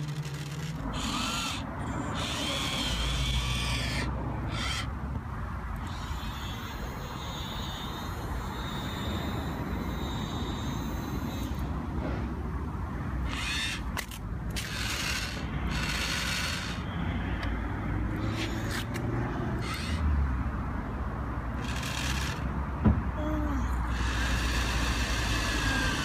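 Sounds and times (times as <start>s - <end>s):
toy crane motor whirring: 0.0s - 5.0s, 5.8s - 11.9s, 13.2s - 17.4s, 18.1s - 20.2s, 21.5s - 22.6s, 23.2s - 26.0s.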